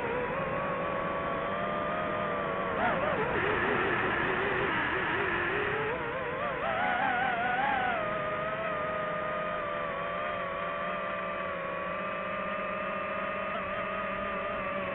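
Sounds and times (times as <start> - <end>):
drone propellers whining: 0.0 - 14.9.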